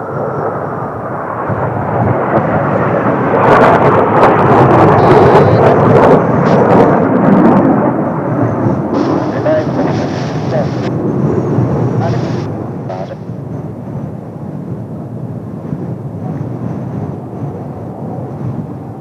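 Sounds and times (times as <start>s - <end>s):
jet roar of aircraft passing: 0.0s - 19.0s.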